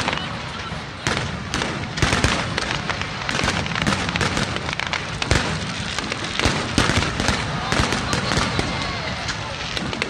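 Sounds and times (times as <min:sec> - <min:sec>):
fireworks bangs: 0:00.0 - 0:10.0
fireworks crackle: 0:00.0 - 0:10.0.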